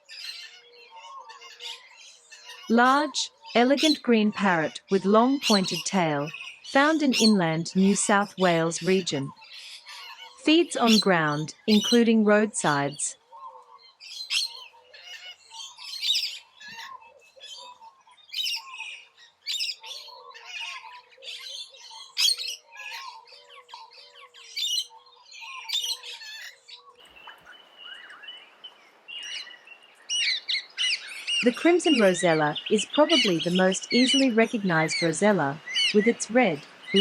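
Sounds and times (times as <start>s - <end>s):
birds chirping and squawking: 0.0s - 37.0s.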